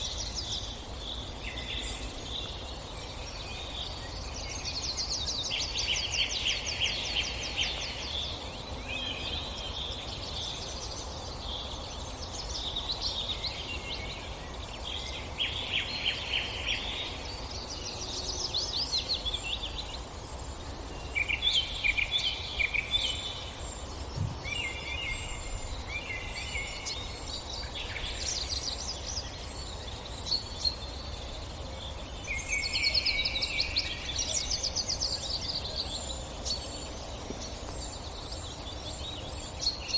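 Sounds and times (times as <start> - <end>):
birds singing trilled notes: 0.0 - 39.9
steady background hiss: 0.0 - 39.9.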